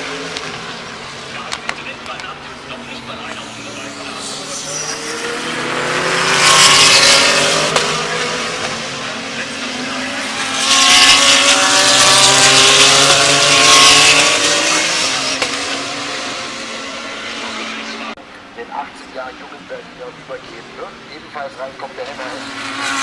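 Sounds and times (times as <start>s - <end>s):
race cars passing at high revs: 0.0s - 23.0s.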